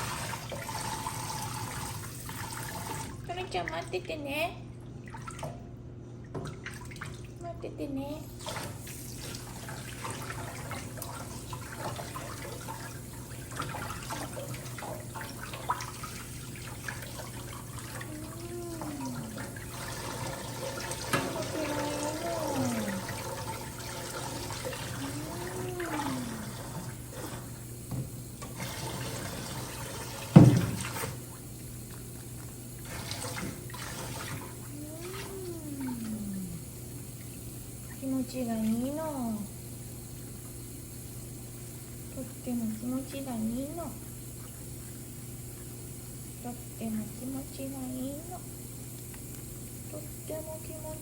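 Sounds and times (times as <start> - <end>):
shower spraying water: 0.0 - 3.2, 8.2 - 51.0.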